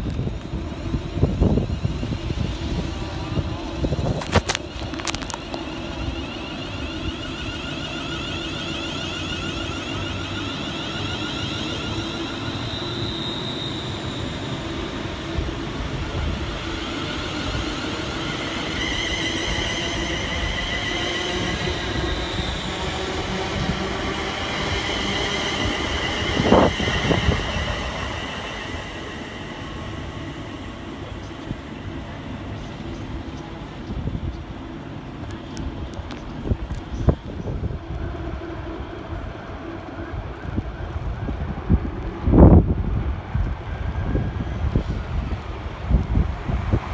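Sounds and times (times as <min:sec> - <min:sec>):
rumble of train wheels: 0:00.0 - 0:46.9
train traction motors whining: 0:00.0 - 0:46.9.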